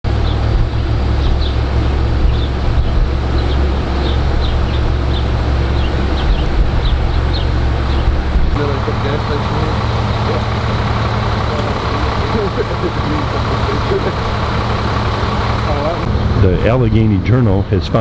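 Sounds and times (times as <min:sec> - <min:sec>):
small birds chirping: 0:00.0 - 0:16.1
steady low rumble: 0:00.0 - 0:18.0.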